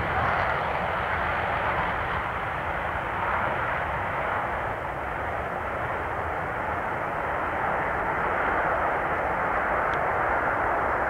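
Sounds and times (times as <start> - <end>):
jet fighters taking off: 0.0 - 11.0.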